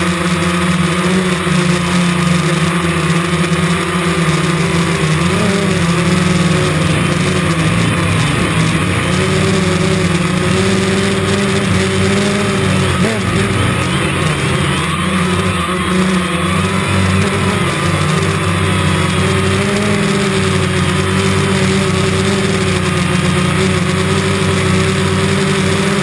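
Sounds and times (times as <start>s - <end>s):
drone propellers humming: 0.0s - 26.0s
rushing noise: 0.0s - 26.0s.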